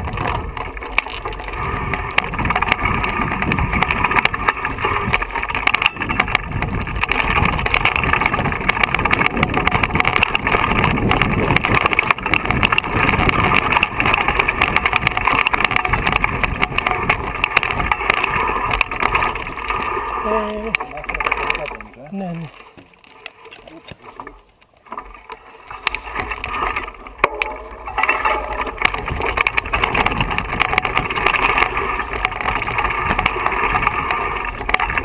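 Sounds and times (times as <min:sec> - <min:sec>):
bike rattling: 0:00.0 - 0:35.0
tyres crunching over stones: 0:00.0 - 0:35.0.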